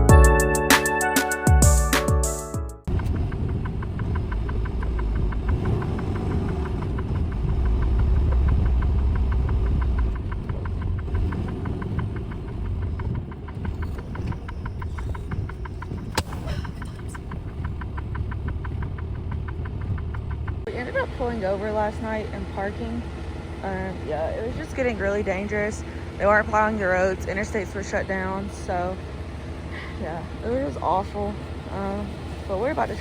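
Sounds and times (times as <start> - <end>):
diesel truck engine idling: 2.9 - 33.0.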